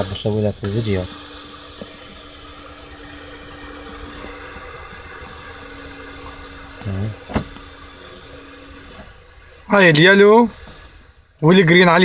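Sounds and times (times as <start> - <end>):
low hum: 0.0 - 11.4
steady hiss: 0.0 - 12.0.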